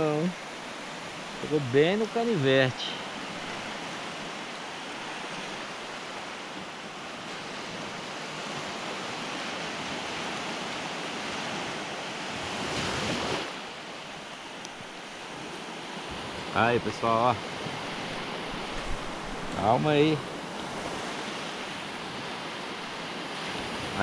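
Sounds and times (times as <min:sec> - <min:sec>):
small waves breaking on beach: 0:00.0 - 0:24.0.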